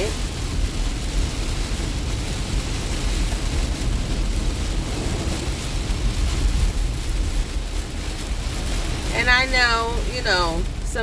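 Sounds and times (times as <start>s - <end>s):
low road rumble: 0.0s - 11.0s
rain and tyre spray hiss: 0.0s - 11.0s.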